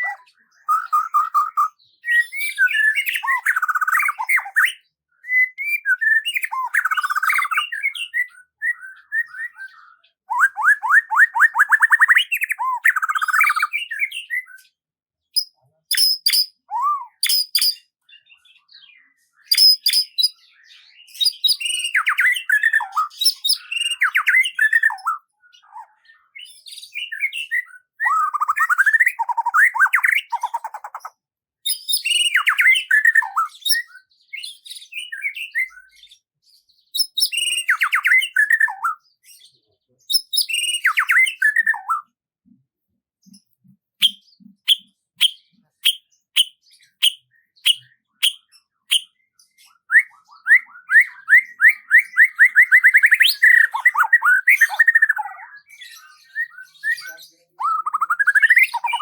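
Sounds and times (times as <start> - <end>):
songbird singing: 0.0 - 42.6, 43.2 - 59.0.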